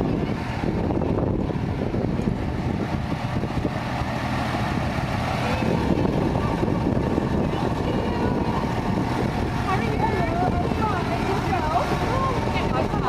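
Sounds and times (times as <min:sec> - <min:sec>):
lorry engine rumbling: 0:00.0 - 0:13.0.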